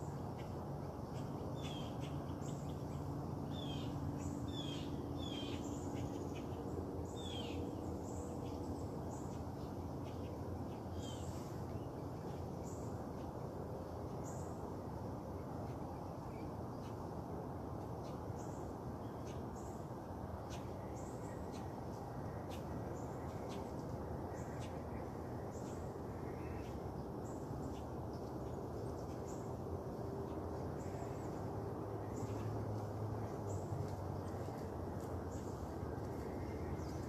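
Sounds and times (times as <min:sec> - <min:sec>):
low background rumble: 0:00.0 - 0:37.0.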